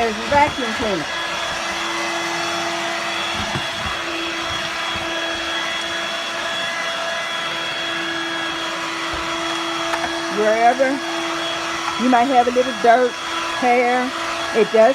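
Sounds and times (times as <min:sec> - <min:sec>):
stick vacuum running: 0:00.0 - 0:14.9.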